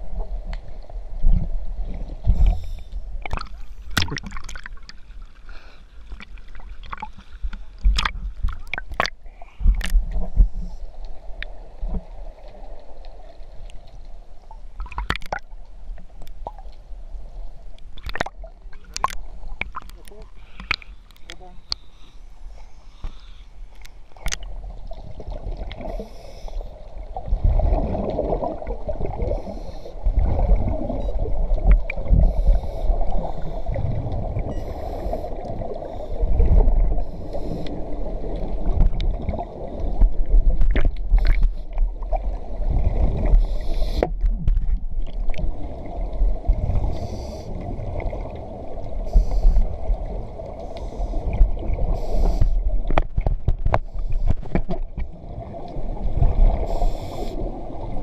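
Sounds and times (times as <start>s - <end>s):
underwater bubbles gurgling: 0.0s - 21.3s, 23.9s - 58.0s.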